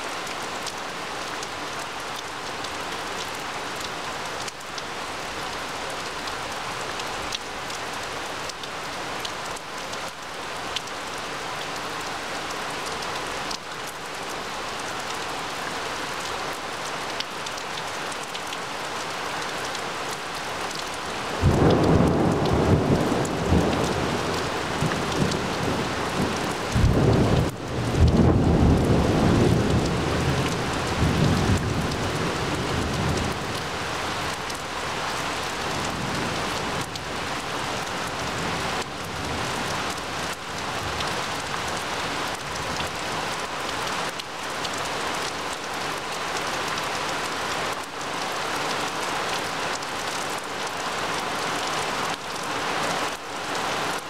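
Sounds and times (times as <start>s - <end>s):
rain on trees and grass: 0.0s - 54.0s.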